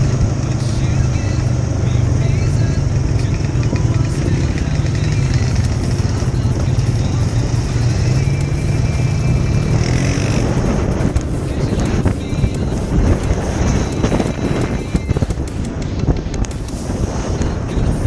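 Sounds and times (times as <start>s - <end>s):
atv engine droning: 0.0s - 18.0s
tyres on gravel trail: 0.0s - 18.0s.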